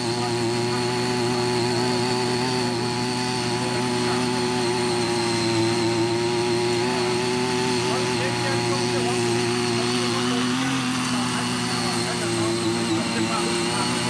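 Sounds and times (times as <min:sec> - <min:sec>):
tiller engine running: 0:00.0 - 0:14.0.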